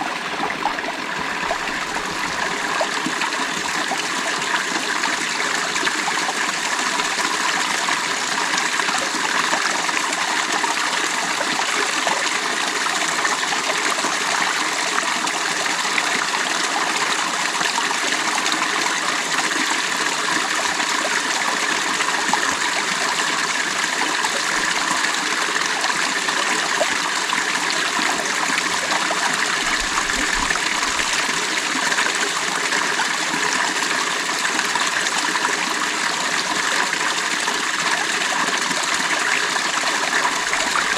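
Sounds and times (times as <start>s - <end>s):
creek water flowing over stones: 0.0s - 40.9s.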